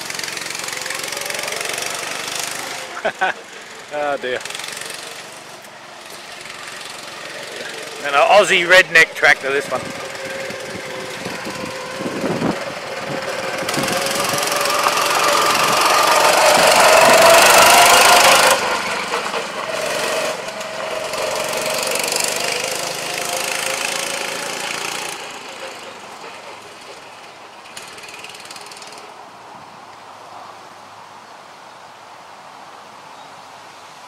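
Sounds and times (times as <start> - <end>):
small engine running under load: 0.0 - 29.1.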